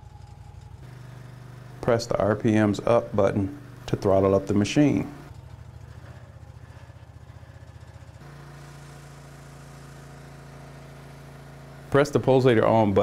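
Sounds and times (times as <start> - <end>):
sewer jetter engine running: 0.0 - 13.0.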